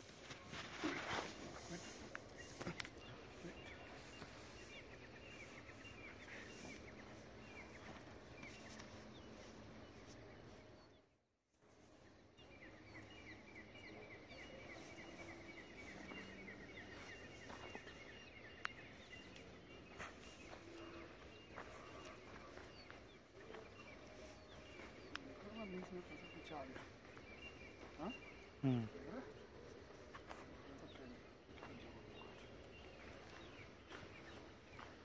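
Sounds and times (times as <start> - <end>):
bird chirping: 0.0 - 11.1, 11.9 - 35.0
faint outdoor background noise: 0.0 - 35.0.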